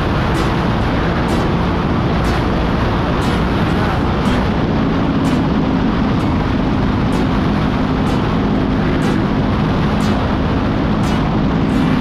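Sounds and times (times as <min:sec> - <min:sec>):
motorcycle engine cruising: 0:00.0 - 0:12.0
road noise: 0:00.0 - 0:12.0
wind rush: 0:00.0 - 0:12.0.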